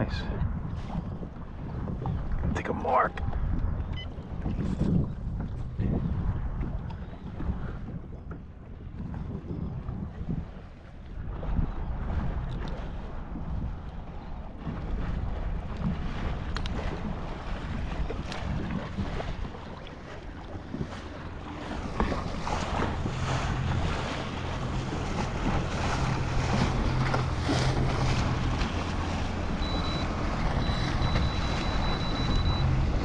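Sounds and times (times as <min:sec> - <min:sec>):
low motor hum: 0:00.0 - 0:33.0
water lapping at kayak: 0:00.0 - 0:33.0
wind buffeting microphone: 0:00.0 - 0:33.0.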